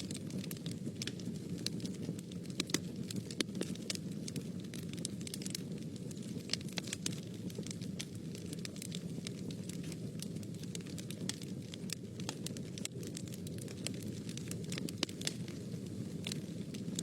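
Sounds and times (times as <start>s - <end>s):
fire crackling and popping: 0.0s - 17.0s
fire rumbling in fireplace: 0.0s - 17.0s.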